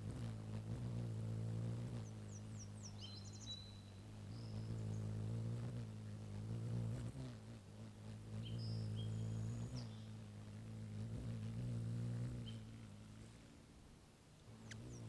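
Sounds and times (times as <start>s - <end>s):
hummingbird wings humming: 0.0s - 15.0s.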